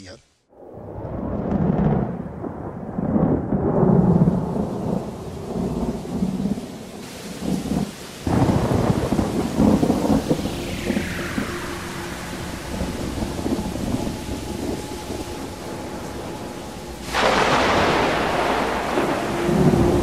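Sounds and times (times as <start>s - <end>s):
thunder rumbling: 0.5s - 20.0s
steady rain: 0.9s - 20.0s.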